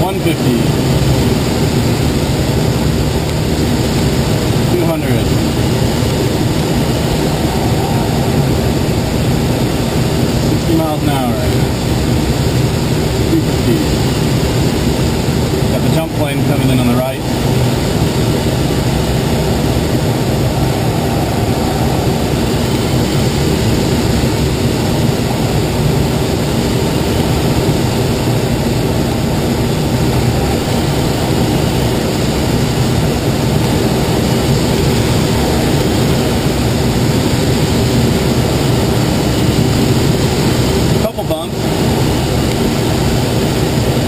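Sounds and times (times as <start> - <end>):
air rushing over canopy: 0.0 - 44.0
plane engine drone: 0.0 - 44.0.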